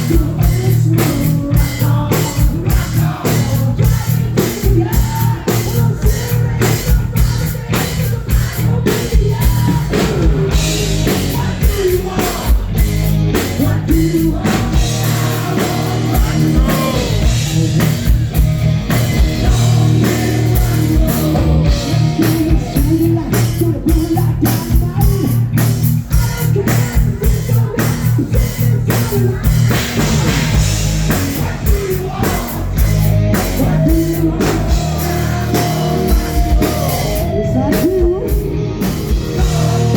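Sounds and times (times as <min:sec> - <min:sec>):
person singing: 0:00.0 - 0:30.2, 0:31.0 - 0:39.9
live rock band playing: 0:00.0 - 0:39.9.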